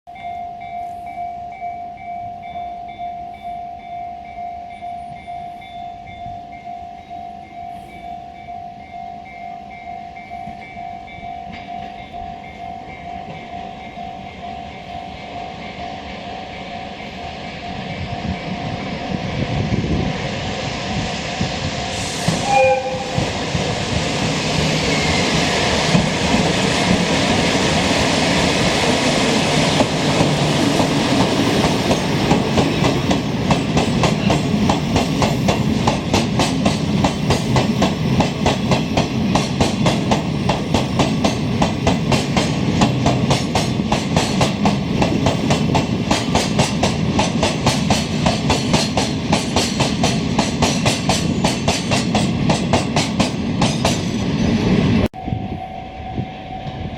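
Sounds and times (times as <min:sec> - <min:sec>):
freight train rumbling past: 0:00.1 - 0:56.9.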